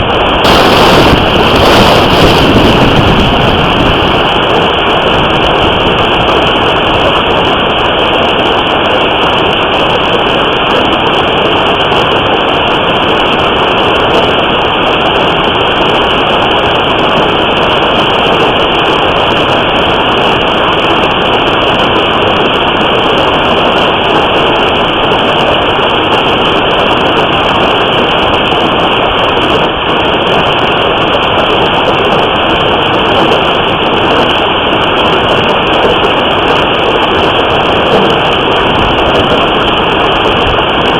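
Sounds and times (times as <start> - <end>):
hail and heavy rain pounding: 0.0 - 40.9.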